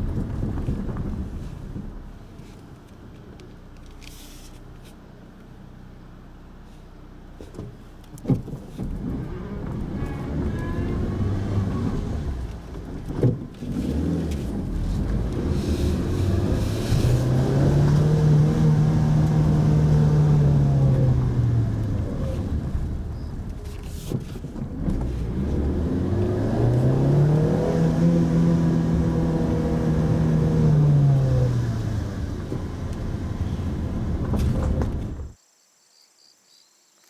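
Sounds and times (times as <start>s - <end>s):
car engine from inside: 0.0s - 35.4s.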